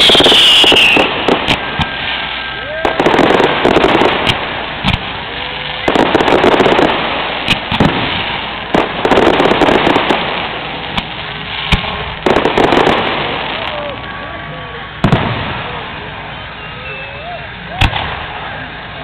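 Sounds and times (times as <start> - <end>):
fireworks shells booming: 0.0 - 14.0, 15.0 - 16.6
fireworks crackling: 0.0 - 19.0.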